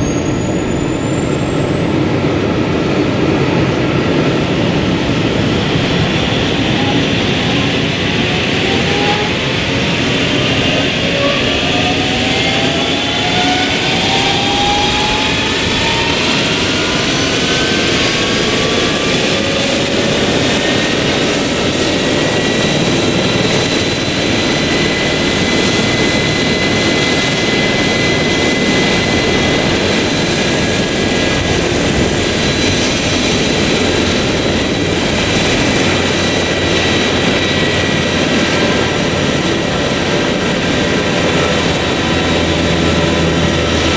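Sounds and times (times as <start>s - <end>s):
helicopter turbine whine: 0.0s - 43.9s
rotor and exhaust rush: 0.0s - 43.9s.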